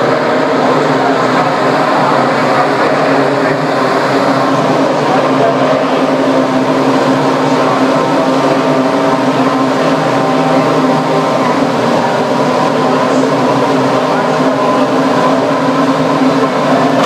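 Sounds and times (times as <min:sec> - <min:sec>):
racing car engines wailing: 0:00.0 - 0:17.0.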